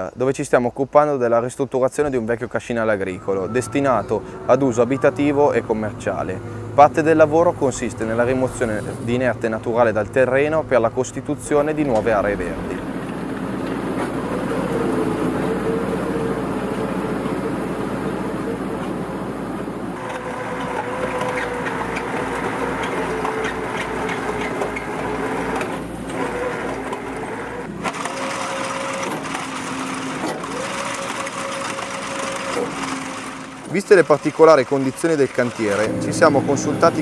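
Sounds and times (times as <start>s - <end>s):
excavator engine whine: 2.1s - 37.0s.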